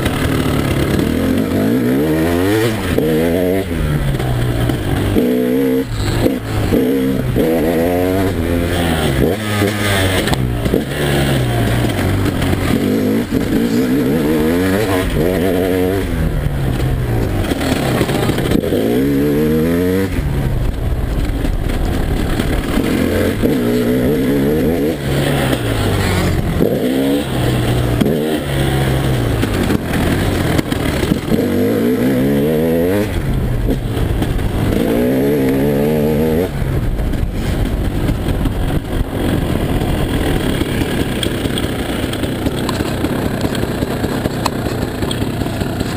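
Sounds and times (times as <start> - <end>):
two-stroke motorbike engine revving: 0.0 - 45.9.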